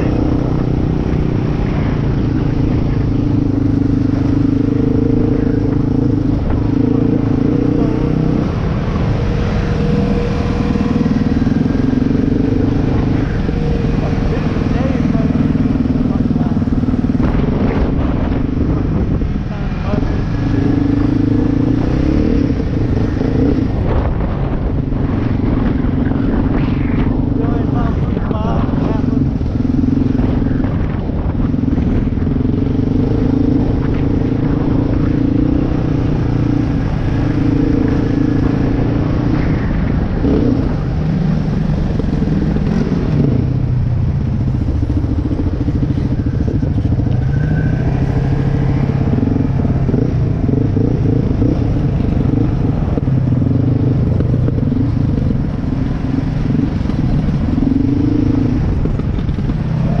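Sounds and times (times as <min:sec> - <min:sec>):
quad engine revving: 0:00.0 - 1:00.0.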